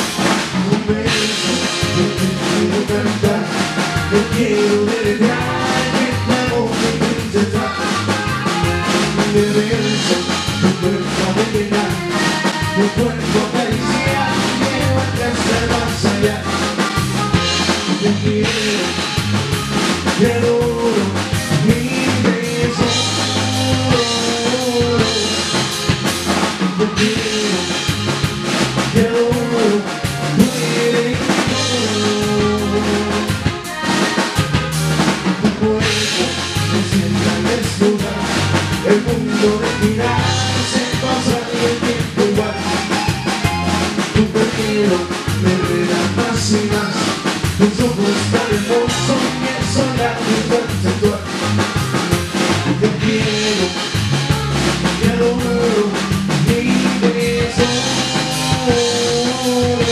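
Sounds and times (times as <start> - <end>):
button accordion: 0.0 - 59.9
drum kit beat: 0.0 - 59.9
electric bass: 0.0 - 59.9
guitar: 0.0 - 59.9.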